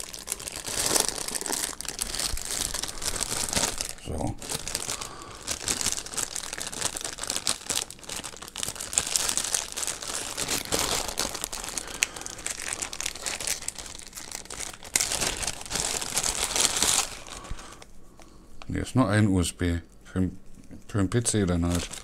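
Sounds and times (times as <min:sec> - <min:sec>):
plastic bags crinkling: 0:00.0 - 0:18.7, 0:21.2 - 0:22.0.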